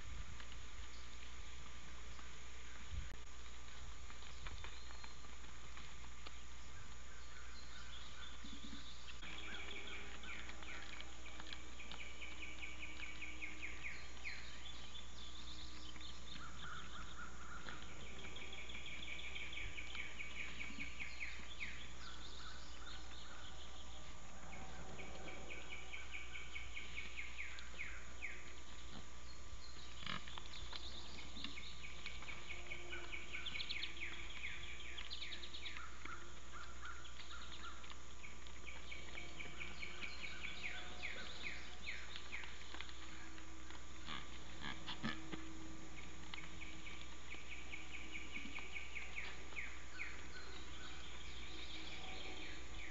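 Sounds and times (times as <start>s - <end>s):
steady electrical hum: 0.0s - 52.9s.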